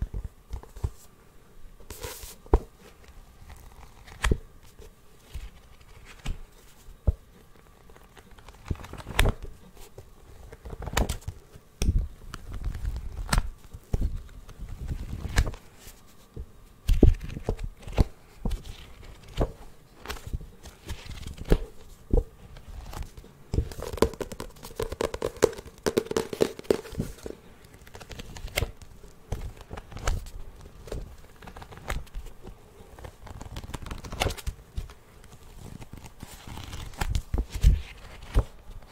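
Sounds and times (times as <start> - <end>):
crinkling and rustling handling: 1.8 - 38.9.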